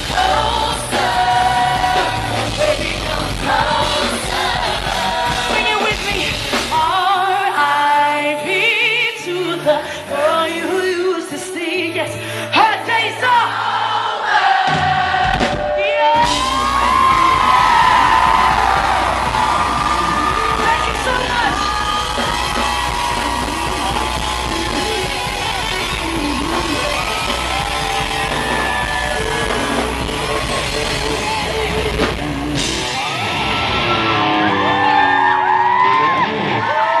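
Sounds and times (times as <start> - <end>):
crowd screaming and cheering: 0.0 - 7.2, 12.8 - 37.0
live pop band playing: 0.0 - 13.8, 14.5 - 37.0.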